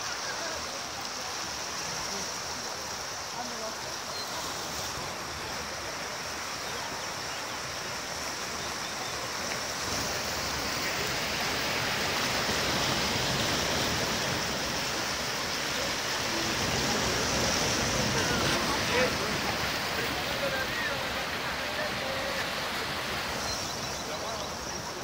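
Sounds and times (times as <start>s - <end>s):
flood water rushing: 0.0s - 25.0s.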